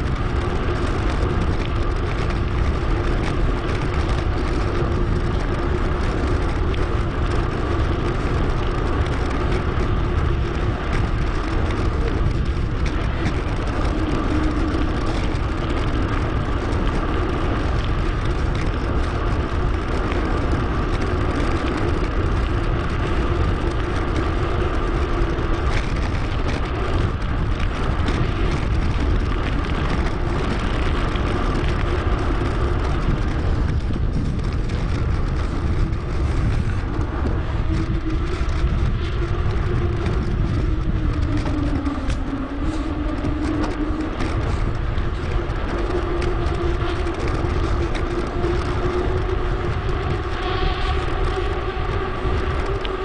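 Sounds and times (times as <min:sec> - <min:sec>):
bike tyre and road noise: 0:00.0 - 0:53.0
wind on microphone: 0:00.0 - 0:53.0.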